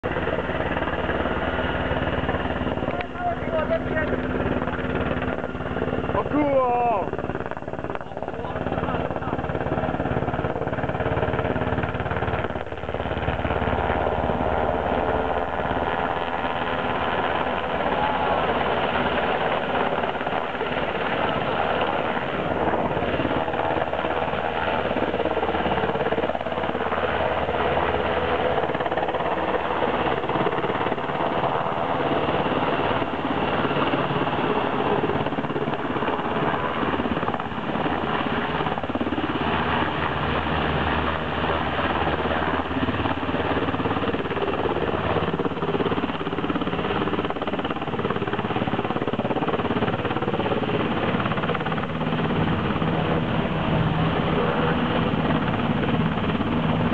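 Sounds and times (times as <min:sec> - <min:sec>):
helicopter engine noise: 0:00.0 - 0:56.9
helicopter rotor blades beating: 0:00.0 - 0:56.9.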